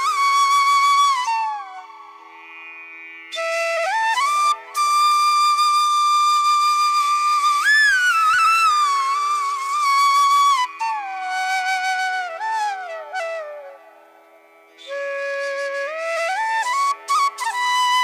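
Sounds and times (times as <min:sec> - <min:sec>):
flute playing slow melody: 0:00.0 - 0:02.5, 0:03.3 - 0:18.0.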